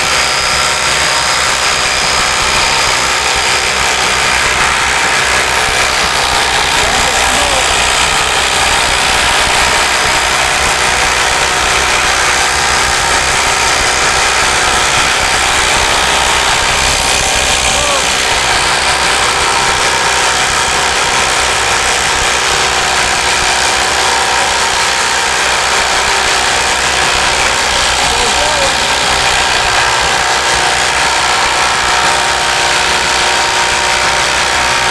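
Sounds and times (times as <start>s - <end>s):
impact driver rattling: 0.0s - 34.9s.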